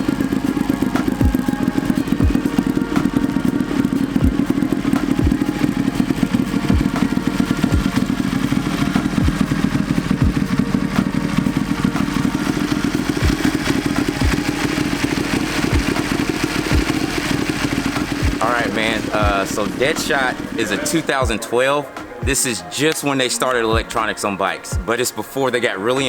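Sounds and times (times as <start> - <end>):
motorcycle engine running: 0.0 - 25.2.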